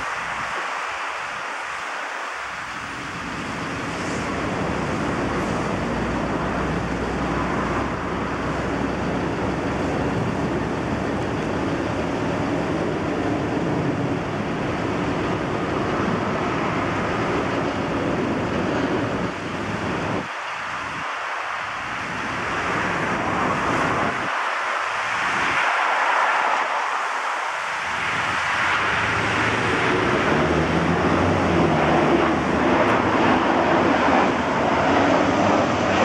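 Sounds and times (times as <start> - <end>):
heavy road traffic rumble: 2.3 - 36.0.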